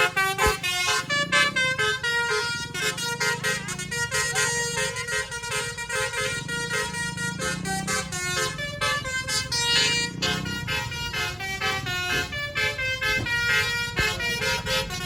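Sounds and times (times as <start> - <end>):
multi-tone bus horn tune: 0.0 - 15.0.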